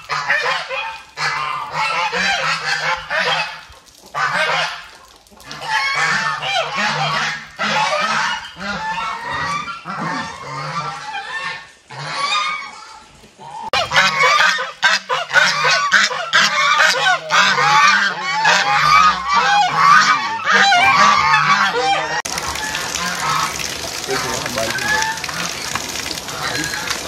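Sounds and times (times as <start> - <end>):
flock of fowl calling: 0.0 - 27.0.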